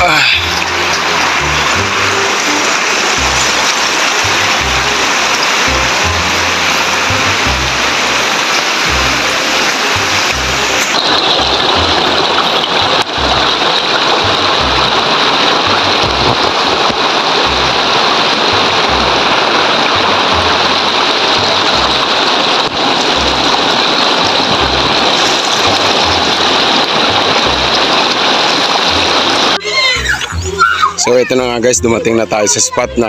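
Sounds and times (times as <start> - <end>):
stream rushing over boulders: 0.0 - 33.0.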